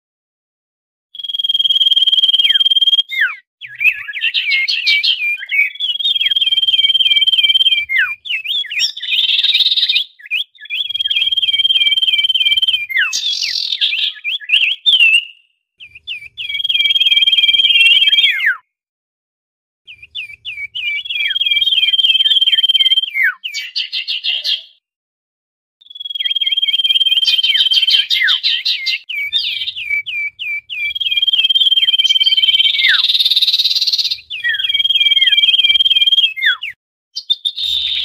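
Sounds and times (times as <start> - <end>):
bird twittering chatter: 1.2 - 18.5, 19.9 - 24.8, 25.8 - 38.0
bird whistling: 1.2 - 18.6, 19.9 - 24.8, 25.8 - 38.0.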